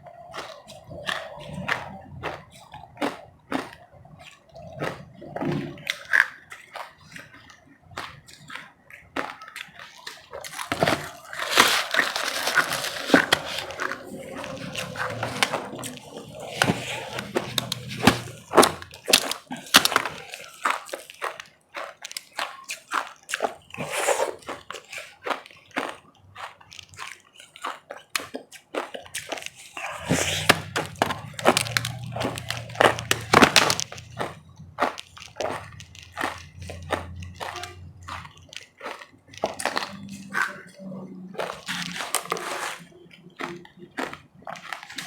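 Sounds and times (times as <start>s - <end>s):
chewing ice crunches: 0.0s - 45.0s.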